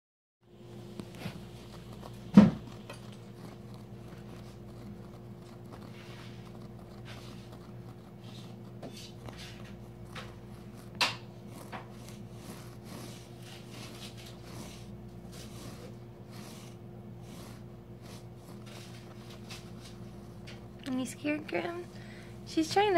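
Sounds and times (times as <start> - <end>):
steady low hum: 0.4 - 22.9.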